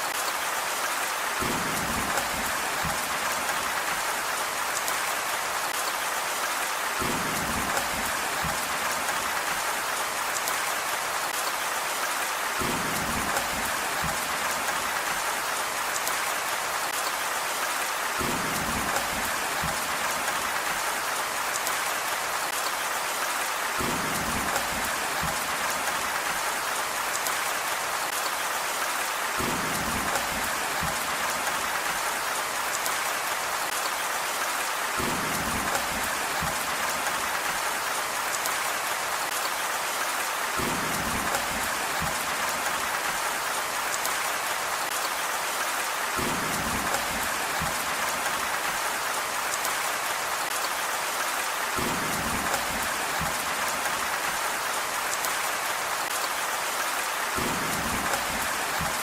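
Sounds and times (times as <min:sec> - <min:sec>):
heavy rain hiss: 0:00.1 - 0:59.0.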